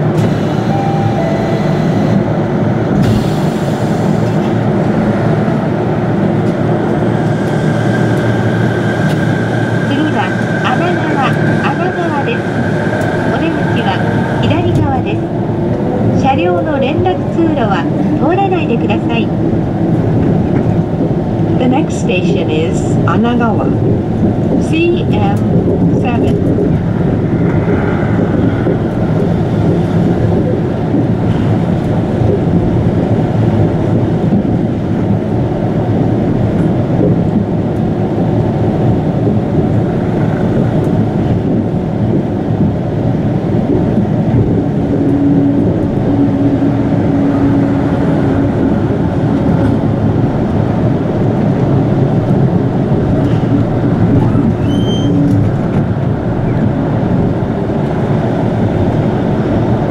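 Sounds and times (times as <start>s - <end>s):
monorail rolling rumble: 0.0s - 59.9s.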